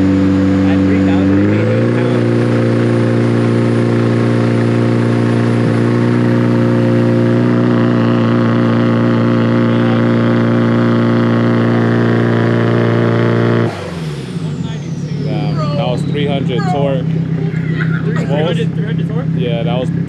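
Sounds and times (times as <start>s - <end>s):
turbocharged car engine under load: 0.0s - 20.0s.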